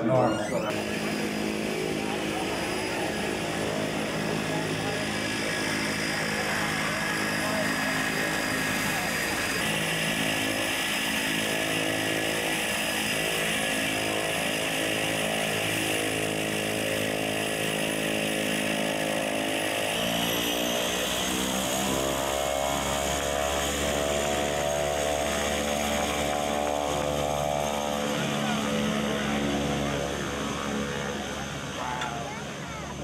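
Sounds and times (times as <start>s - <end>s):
propeller plane engine idling: 0.0s - 33.0s.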